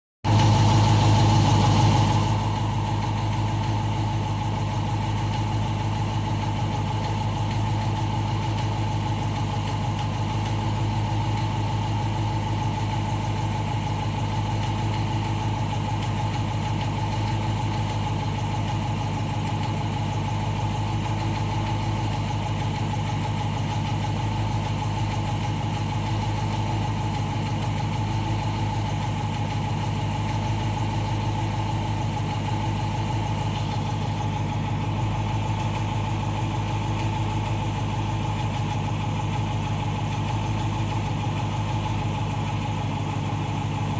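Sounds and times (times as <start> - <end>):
car engine idling: 0.2 - 43.9.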